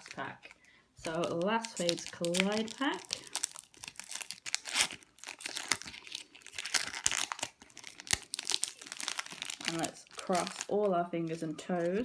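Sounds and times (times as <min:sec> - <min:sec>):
foil wrapper tearing and crinkling: 0:00.0 - 0:10.9.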